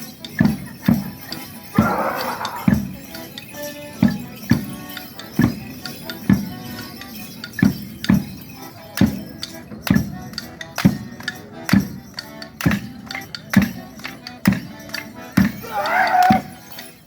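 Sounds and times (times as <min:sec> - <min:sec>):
bells jingling: 0:00.0 - 0:17.0
folk dance music: 0:00.0 - 0:17.0.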